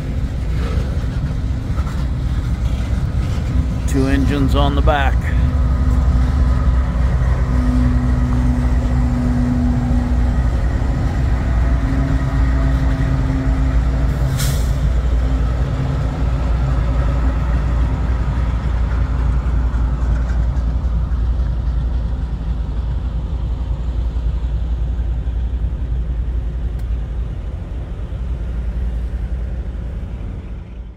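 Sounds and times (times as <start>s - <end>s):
diesel locomotive engine drone: 0.0s - 30.9s.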